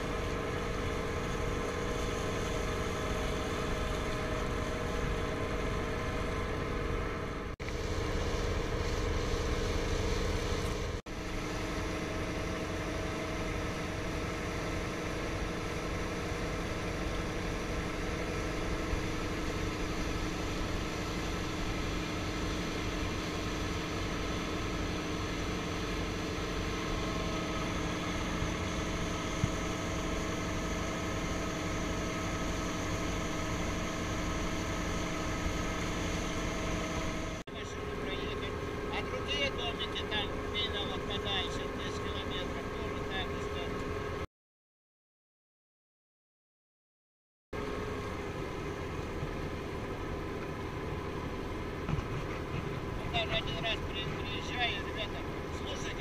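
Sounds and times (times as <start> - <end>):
motorboat engine running: 0.0 - 44.2, 47.6 - 56.0.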